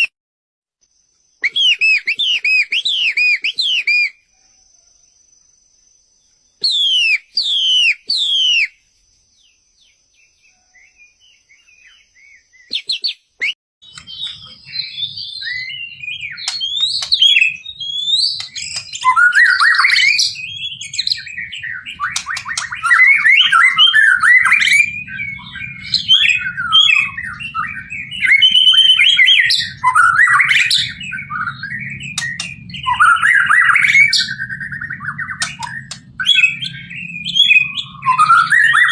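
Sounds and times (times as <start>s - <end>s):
bird singing: 1.0s - 38.9s.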